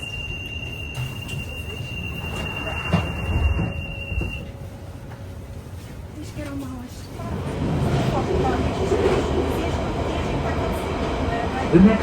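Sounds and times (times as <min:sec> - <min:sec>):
low train carriage rumble: 0:00.0 - 0:12.0.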